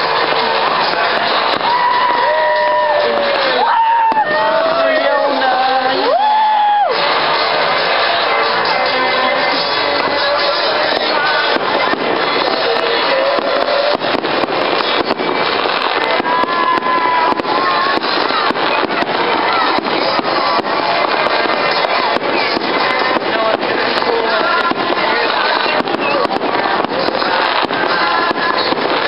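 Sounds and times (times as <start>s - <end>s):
fireworks crackling and popping: 0.0s - 29.0s
music playing: 0.0s - 29.0s.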